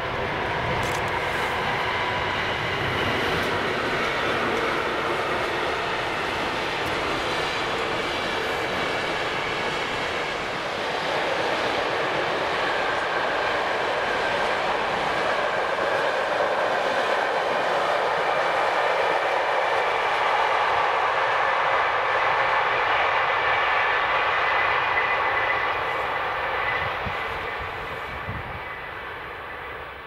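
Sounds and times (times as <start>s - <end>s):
train wheels rushing on rails: 0.0s - 30.0s.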